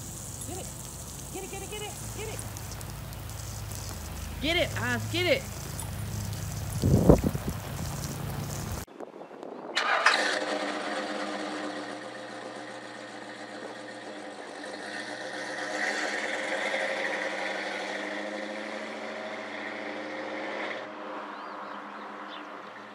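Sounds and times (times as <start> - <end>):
car engine starting and running: 0.0 - 8.9, 9.8 - 21.0.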